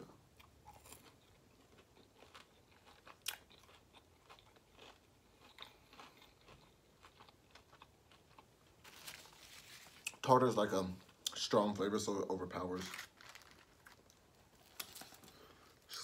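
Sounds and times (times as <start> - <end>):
chewing and crunching food: 0.2 - 11.5, 12.8 - 16.0.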